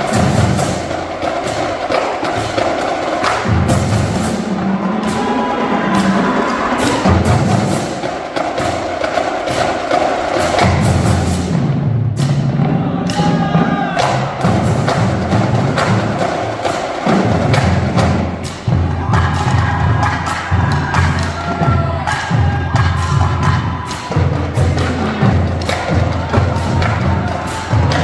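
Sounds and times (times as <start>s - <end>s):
fast drum strokes: 0.0s - 28.0s.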